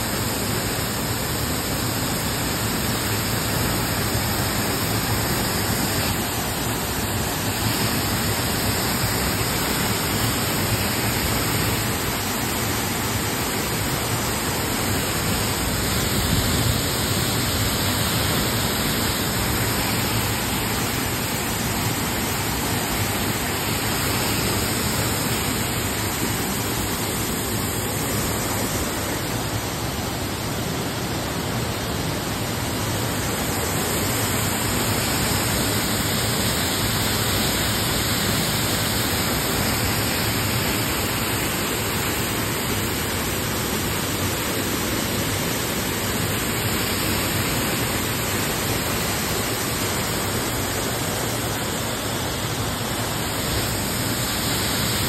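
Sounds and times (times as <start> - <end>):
waterfall pouring into pool: 0.0 - 29.6, 32.6 - 55.0.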